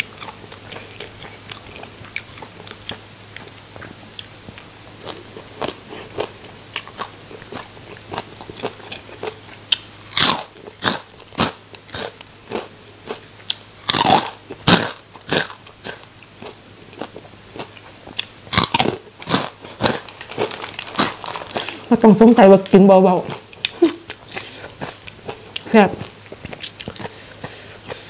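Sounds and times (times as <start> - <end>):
chewing crunchy fried food: 0.0 - 22.0, 23.2 - 28.0.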